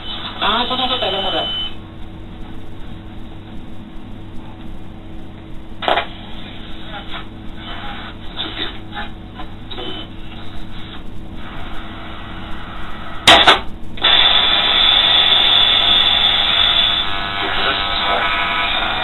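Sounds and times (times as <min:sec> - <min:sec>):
radio static hiss: 0:00.0 - 0:19.0
weak broken radio signal: 0:00.0 - 0:19.0.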